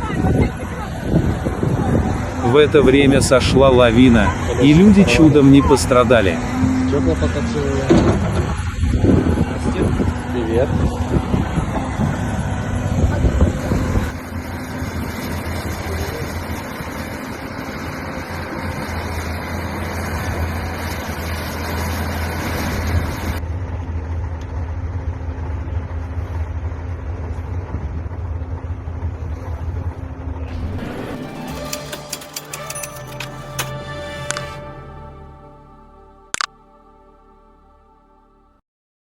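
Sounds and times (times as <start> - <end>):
vehicle engine running: 0.0 - 36.5.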